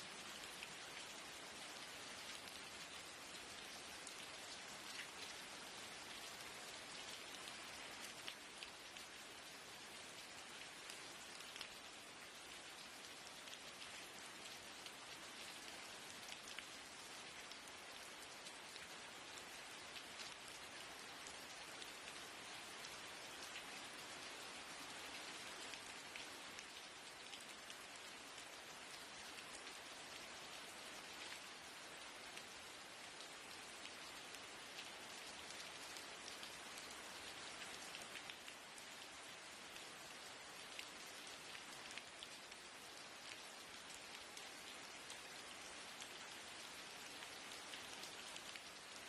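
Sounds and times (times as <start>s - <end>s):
rain on a window: 0.0s - 49.0s.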